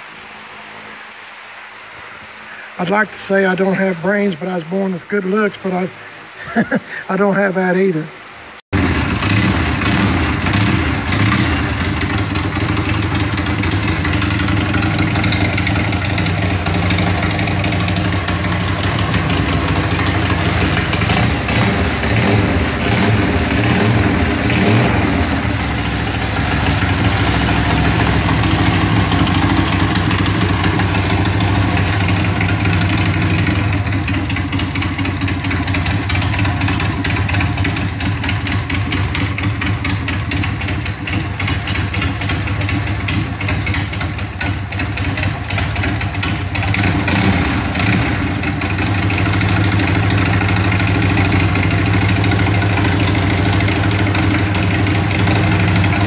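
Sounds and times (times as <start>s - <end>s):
motorcycle engine running: 8.8s - 56.0s.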